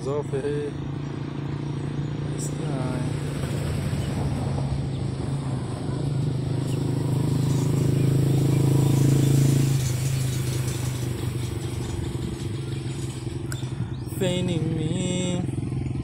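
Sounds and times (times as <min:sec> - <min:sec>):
motor engine droning: 0:00.0 - 0:16.0.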